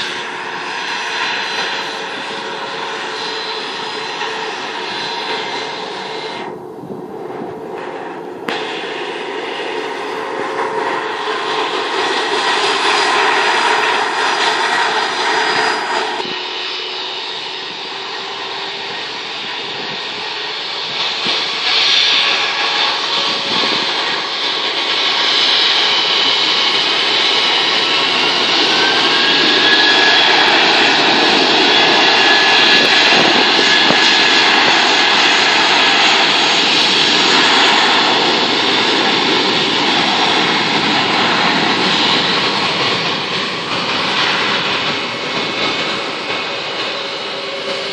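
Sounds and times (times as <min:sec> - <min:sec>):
jet engines at takeoff: 0:00.0 - 0:47.9.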